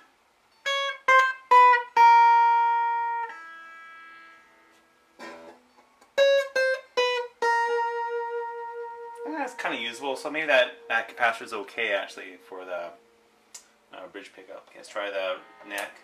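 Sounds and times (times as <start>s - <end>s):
clean electric guitar picking: 0.6s - 13.8s
guitar strum: 0.6s - 14.1s.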